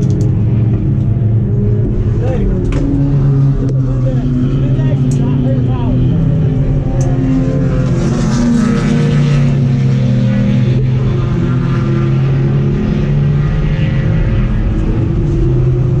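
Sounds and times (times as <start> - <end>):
race car engine at high revs: 0.0 - 16.0.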